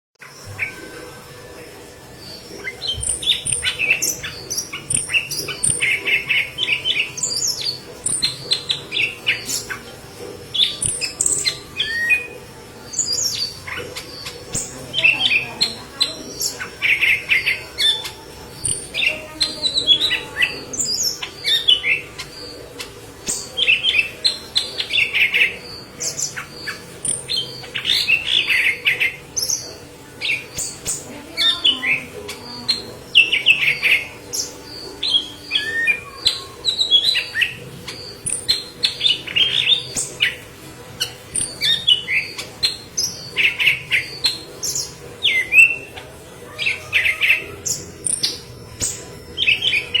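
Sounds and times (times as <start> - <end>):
bird singing chirps and trills: 0.2 - 50.0.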